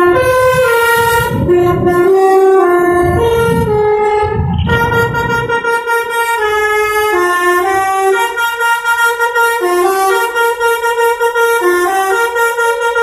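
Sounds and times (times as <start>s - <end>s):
musical air horns playing a tune: 0.0s - 13.0s.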